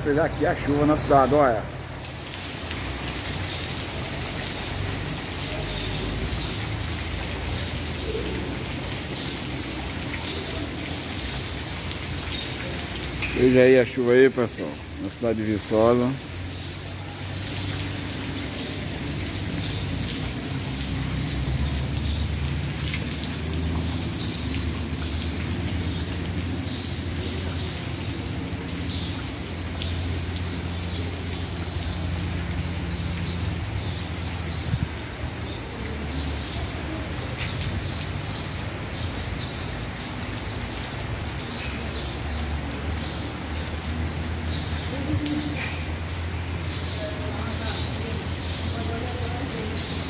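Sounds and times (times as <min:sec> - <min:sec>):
heavy rain on cobblestones and tarps: 0:00.0 - 0:50.0
low rumble of road traffic: 0:00.0 - 0:50.0.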